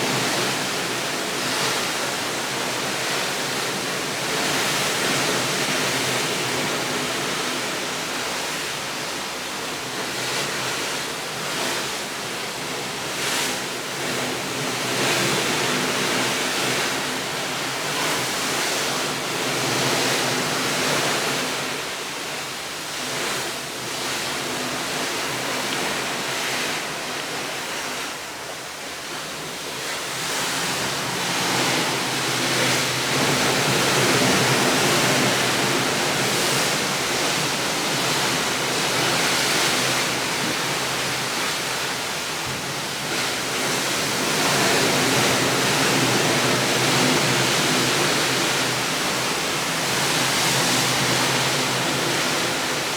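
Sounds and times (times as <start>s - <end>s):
rushing water: 0.0s - 52.9s.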